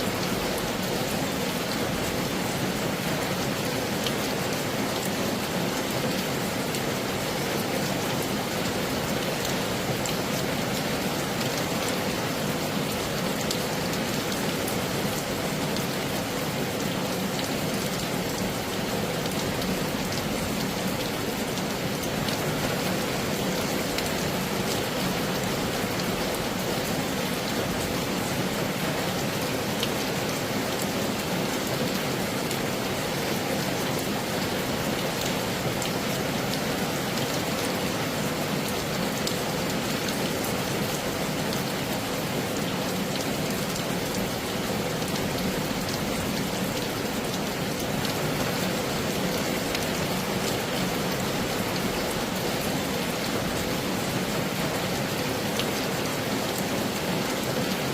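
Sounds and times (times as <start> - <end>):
heavy rain falling: 0.0 - 57.9
raindrops ticking close by: 0.1 - 57.9.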